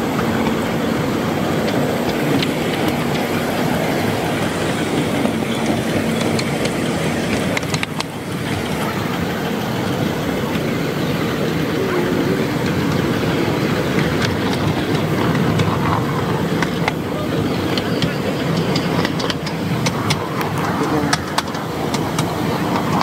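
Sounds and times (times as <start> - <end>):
miniature steam locomotives running: 0.0 - 23.0
wheels clicking on rails: 0.0 - 23.0.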